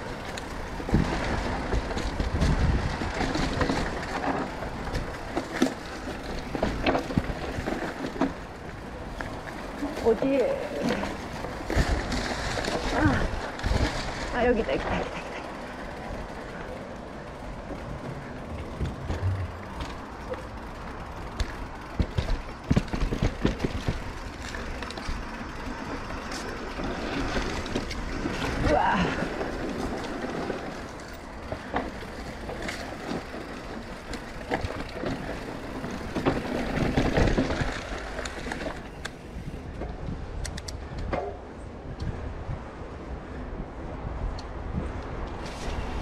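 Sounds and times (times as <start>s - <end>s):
wind noise: 0.0s - 16.1s, 17.5s - 46.0s
bike rattling: 0.0s - 46.0s
bike tyres rolling over dirt: 0.0s - 46.0s.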